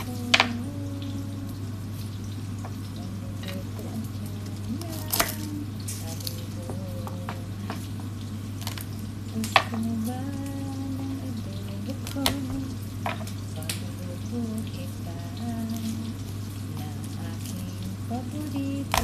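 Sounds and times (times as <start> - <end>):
steady hum and hiss: 0.0 - 19.0.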